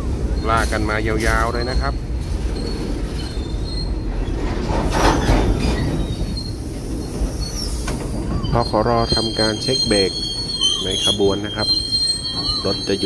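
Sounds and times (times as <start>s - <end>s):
freight train rumbling: 0.0s - 13.0s
train wheels squealing: 0.0s - 13.0s.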